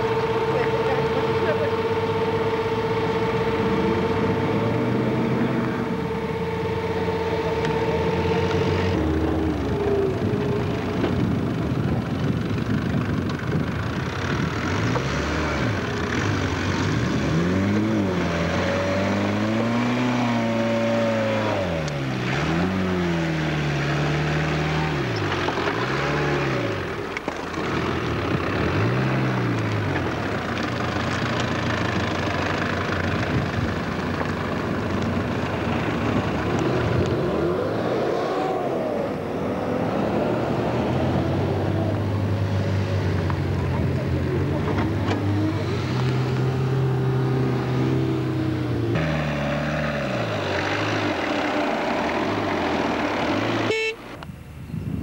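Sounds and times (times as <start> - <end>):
off-road engine revving: 0.0 - 54.2.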